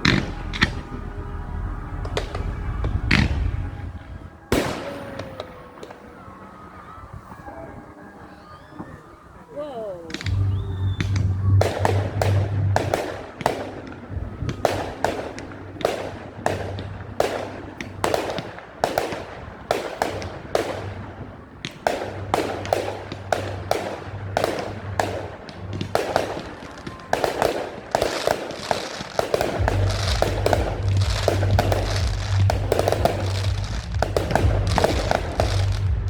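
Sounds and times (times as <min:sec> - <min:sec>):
music playing: 0:00.0 - 0:08.0, 0:09.8 - 0:36.0
fireworks bangs and crackle: 0:00.0 - 0:36.0.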